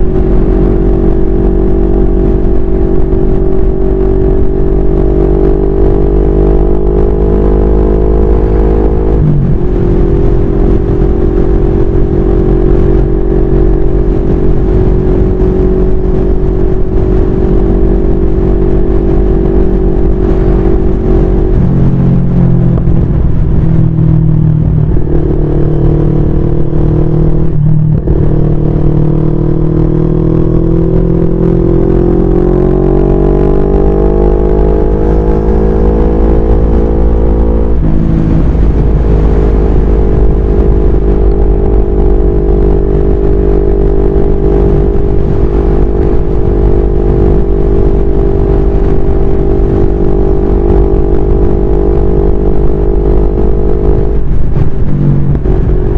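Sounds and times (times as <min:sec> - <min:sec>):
motorcycle engine revving: 0:00.0 - 0:55.9
wind rumbling on microphone: 0:00.0 - 0:55.9.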